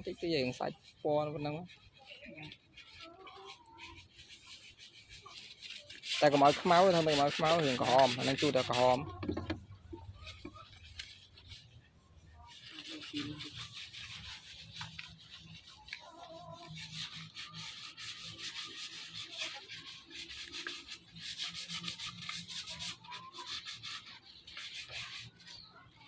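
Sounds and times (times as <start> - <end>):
tool scratching wood: 0.0 - 26.0.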